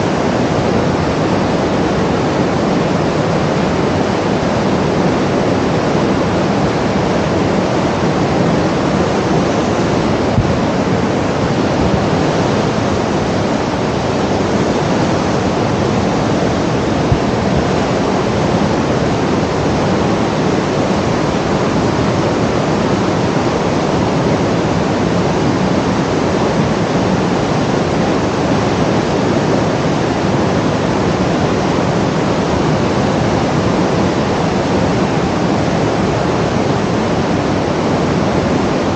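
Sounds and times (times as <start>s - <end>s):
steady rushing noise: 0.0s - 38.9s.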